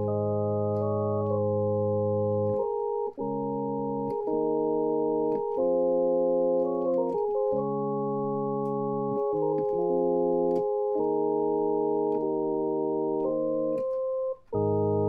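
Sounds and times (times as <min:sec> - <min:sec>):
synthesizer organ chords: 0:00.0 - 0:15.0.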